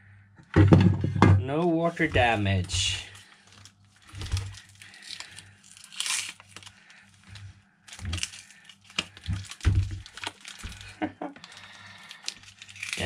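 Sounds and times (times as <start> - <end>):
plastic wrap crinkling: 1.8 - 13.0.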